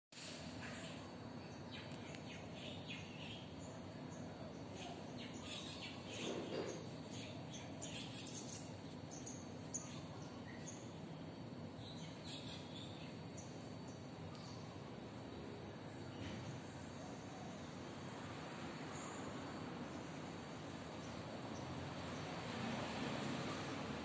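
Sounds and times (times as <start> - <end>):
outdoor background noise: 0.1 - 24.0
small birds chirping: 0.5 - 18.0, 18.9 - 24.0.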